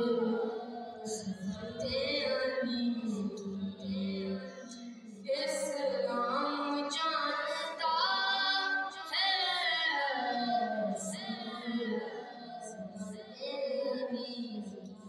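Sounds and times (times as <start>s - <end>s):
boy singing: 0.0s - 14.8s.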